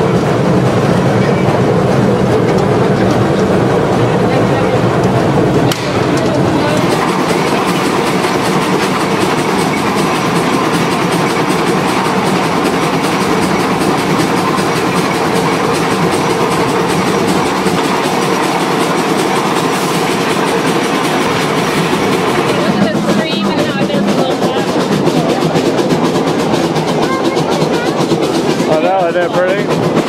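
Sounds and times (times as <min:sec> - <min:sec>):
steam locomotive running gear clatter: 0:00.0 - 0:30.0.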